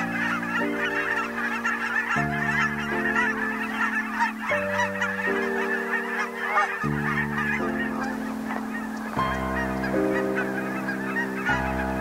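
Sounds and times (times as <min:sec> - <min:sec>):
geese honking: 0:00.0 - 0:12.0
soft background music chords: 0:00.0 - 0:12.0.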